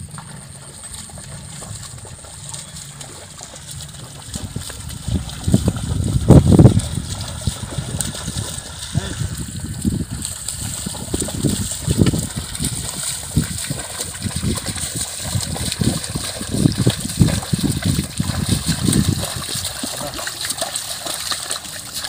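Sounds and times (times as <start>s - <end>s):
water and mud sloshing: 0.0s - 22.0s.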